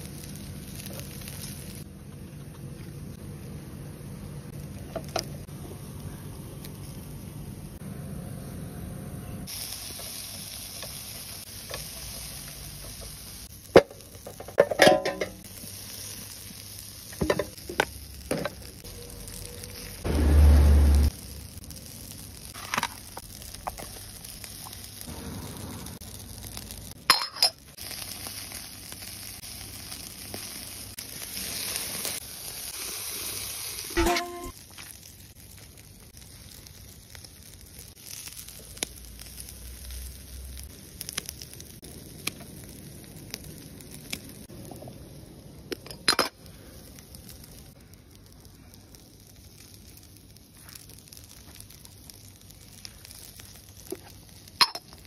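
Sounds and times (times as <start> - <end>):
liquid sizzling and bubbling: 0.0 - 55.0.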